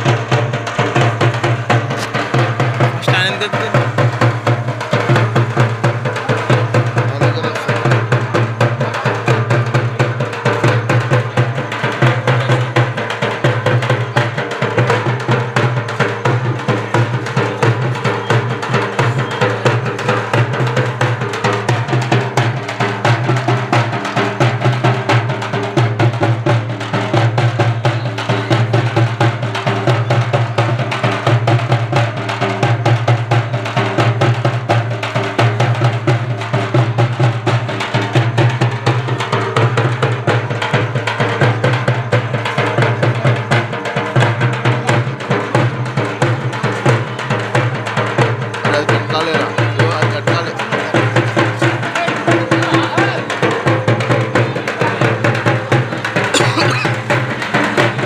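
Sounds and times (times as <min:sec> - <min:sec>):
loud fast drumming: 0:00.0 - 0:58.0.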